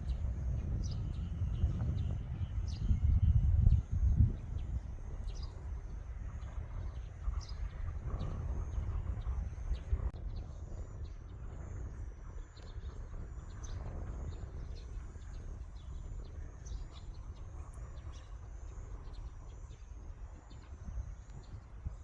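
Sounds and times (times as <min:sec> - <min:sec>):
birds and insects chirping: 0:00.0 - 0:22.0
low rumble: 0:00.0 - 0:22.0.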